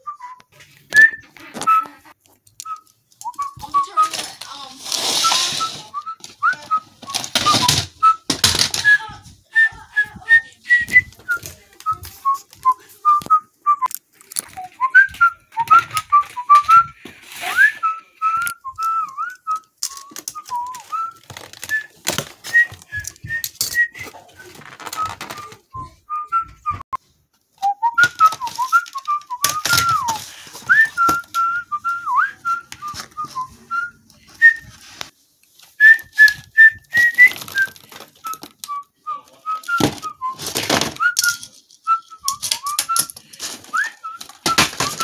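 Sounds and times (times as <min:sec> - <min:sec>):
clicks and packaging rustling: 0:00.3 - 0:09.0, 0:10.7 - 0:25.7, 0:27.4 - 0:38.9, 0:39.5 - 0:45.0.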